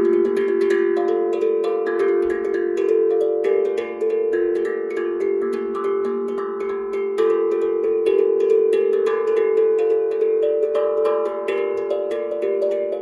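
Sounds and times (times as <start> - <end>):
steel tongue drum notes: 0.0 - 13.0.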